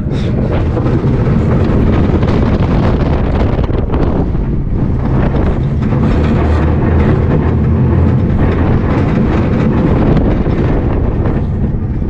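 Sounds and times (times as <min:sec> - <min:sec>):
coaster car rolling rattle: 0:00.0 - 0:12.0
wind on microphone: 0:00.0 - 0:12.0.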